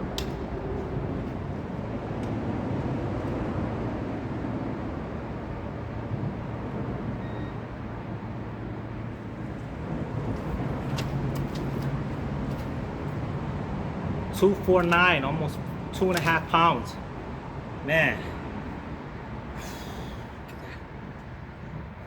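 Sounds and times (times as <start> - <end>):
highway traffic rumble: 0.0 - 22.0.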